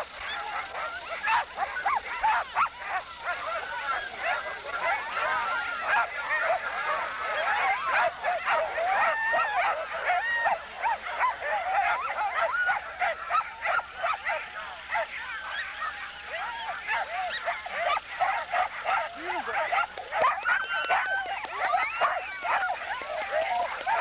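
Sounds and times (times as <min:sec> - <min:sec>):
dogs barking and yipping: 0:00.0 - 0:24.0.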